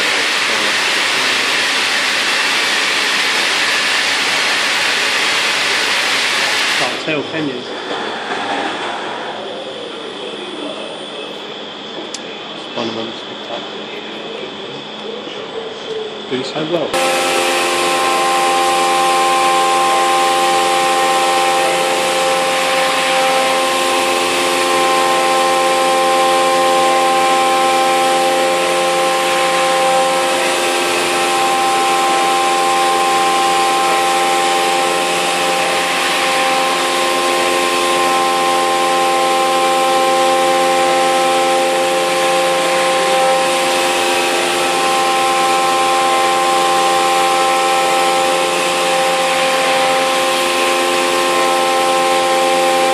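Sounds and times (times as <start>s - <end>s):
milling machine cutting metal: 0.0s - 11.9s, 16.8s - 52.9s.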